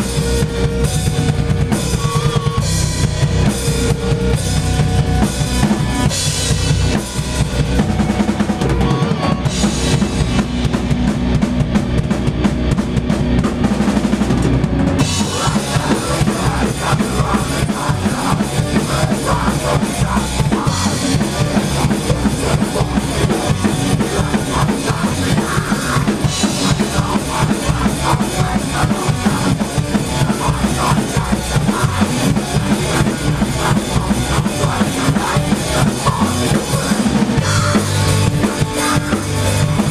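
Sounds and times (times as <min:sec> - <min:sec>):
rock band rehearsing: 0:00.0 - 0:39.9.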